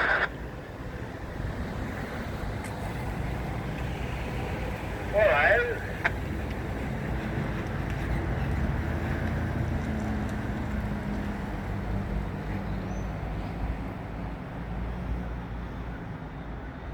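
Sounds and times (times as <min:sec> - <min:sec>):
passenger train rumble: 0:00.0 - 0:16.9.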